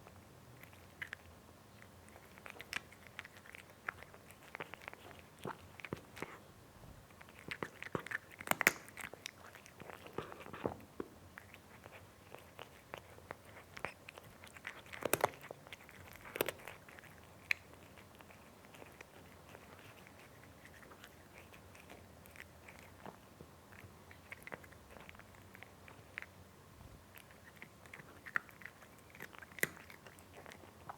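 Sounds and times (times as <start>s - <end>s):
cat chewing and crunching: 0.0s - 30.9s.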